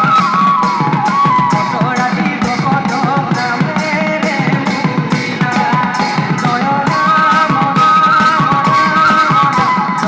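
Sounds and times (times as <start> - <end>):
barrel drums playing rhythm: 0.0 - 10.0.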